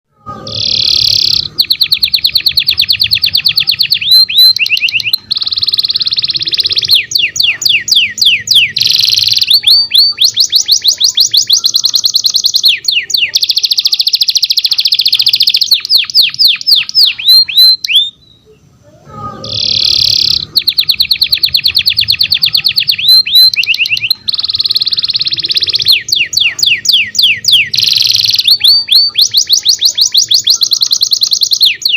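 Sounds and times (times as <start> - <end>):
canary singing trills: 0.1 - 31.9.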